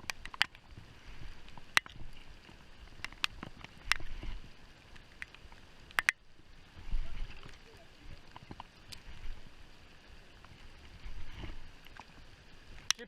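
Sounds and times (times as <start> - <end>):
water hissing around boat: 0.0 - 13.0.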